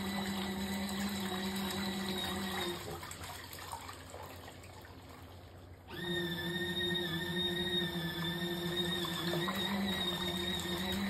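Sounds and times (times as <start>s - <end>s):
washing machine motor humming: 0.0s - 11.0s
water sloshing in tub: 0.0s - 11.0s.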